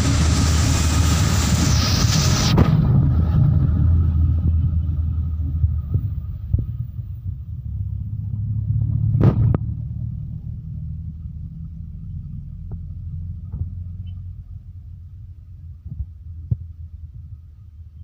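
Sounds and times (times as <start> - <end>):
vehicle rumble from inside: 0.0 - 18.0.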